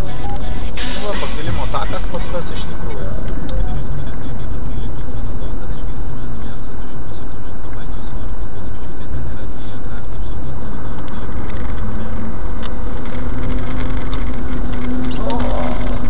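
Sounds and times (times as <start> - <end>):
steady engine note: 0.0 - 16.0
car engine and tyre rumble: 0.7 - 16.0.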